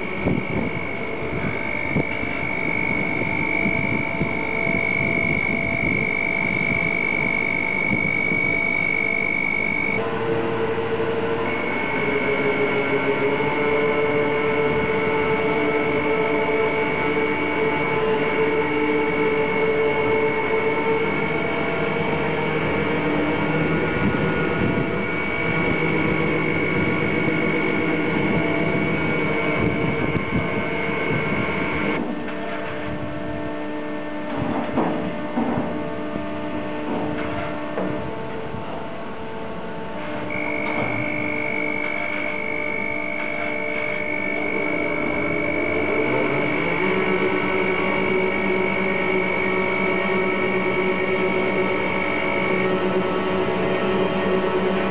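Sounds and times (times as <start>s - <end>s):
crane high whine: 0.0s - 54.9s
crane low hum: 0.0s - 54.9s.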